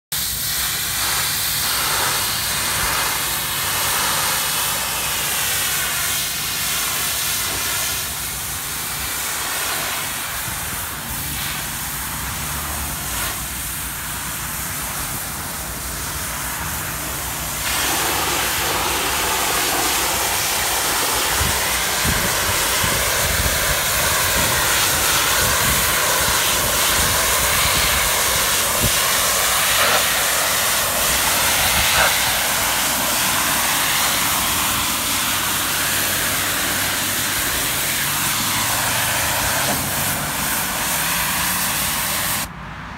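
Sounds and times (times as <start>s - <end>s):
pressure washer machine hum: 0.2s - 42.5s
pressure washer spray hissing: 0.2s - 42.5s.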